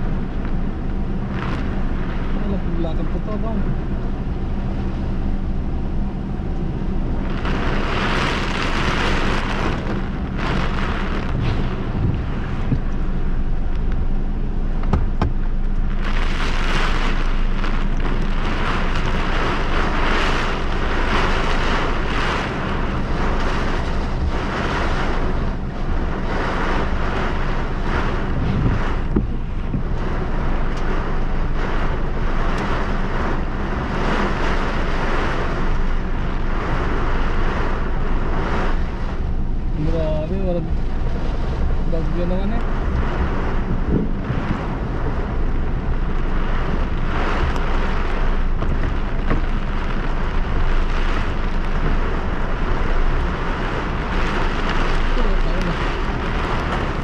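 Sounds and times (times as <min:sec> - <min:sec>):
car engine hum: 0:00.0 - 0:57.0
heavy rain on a car: 0:00.0 - 0:57.0.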